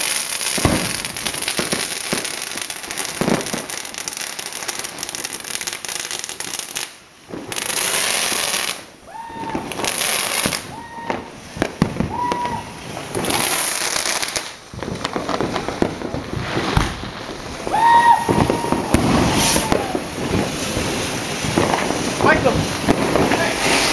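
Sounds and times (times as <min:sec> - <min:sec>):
firecrackers crackling: 0:00.0 - 0:23.9
fireworks hissing: 0:00.0 - 0:23.9
fireworks whistling: 0:00.0 - 0:23.9.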